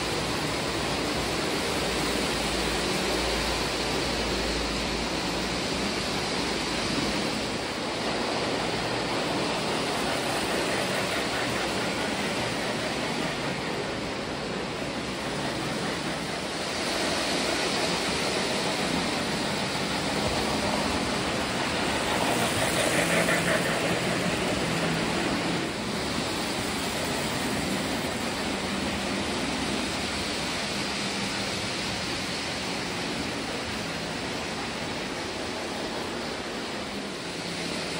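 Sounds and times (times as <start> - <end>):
model train wheels rumbling on rails: 0.0 - 37.9.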